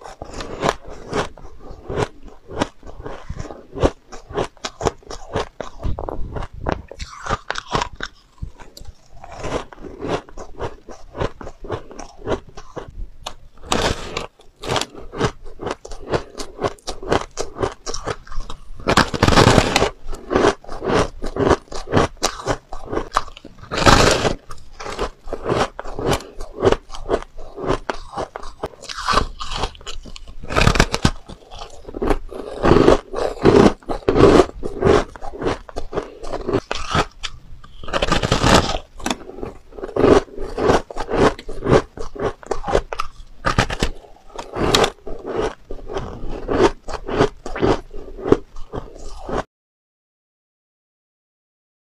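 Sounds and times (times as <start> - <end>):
chewing crunchy shaved ice: 0.0 - 49.5.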